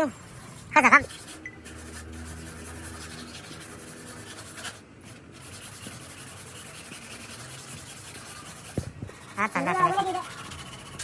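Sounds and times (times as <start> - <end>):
hand sanding: 0.0 - 11.0.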